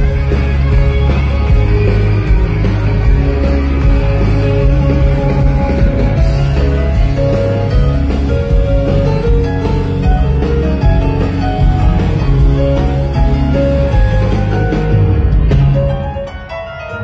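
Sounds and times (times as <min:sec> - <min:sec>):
country band playing live: 0:00.0 - 0:17.0.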